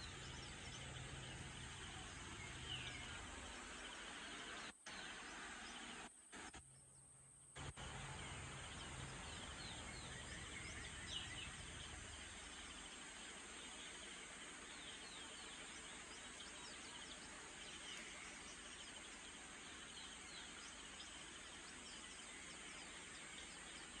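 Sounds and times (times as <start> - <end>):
small birds chirping: 0.0 - 24.0
steady background hiss: 0.0 - 24.0.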